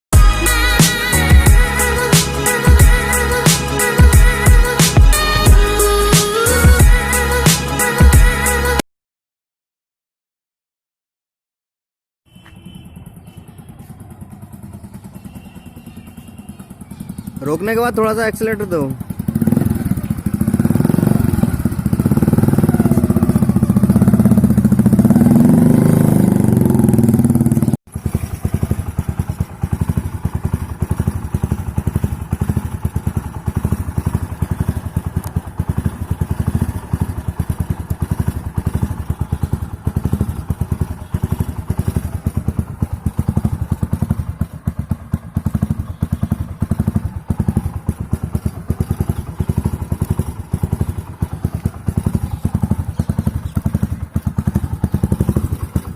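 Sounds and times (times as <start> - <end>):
motorcycle idling: 0.1 - 8.8, 12.3 - 55.9
motorcycle engine revving: 0.2 - 8.8, 12.4 - 55.9.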